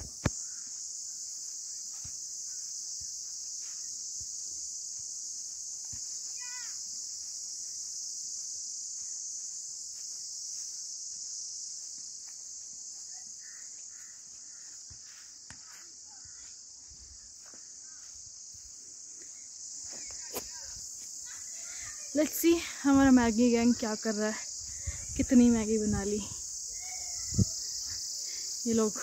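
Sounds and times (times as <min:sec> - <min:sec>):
insect chorus: 0:00.0 - 0:29.0
wavering insect chirp: 0:00.0 - 0:29.0.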